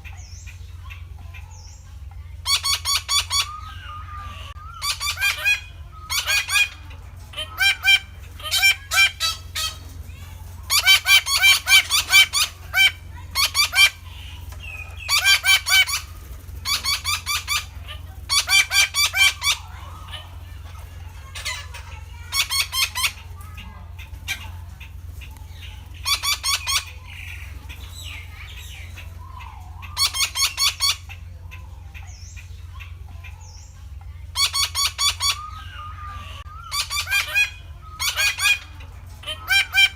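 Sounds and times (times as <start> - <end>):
parakeets squawking: 0.0 - 39.9
steady low hum: 0.0 - 39.9.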